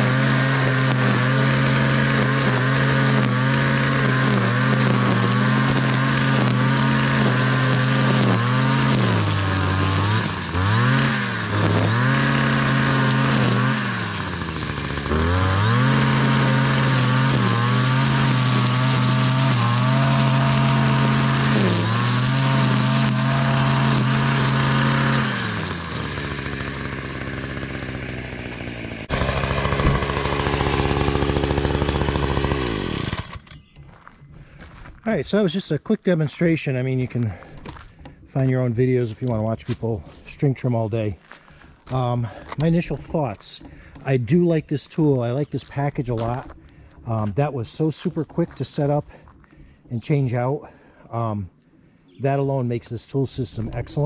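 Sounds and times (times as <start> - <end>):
string trimmer cutting grass: 0.0 - 35.0, 36.8 - 54.0.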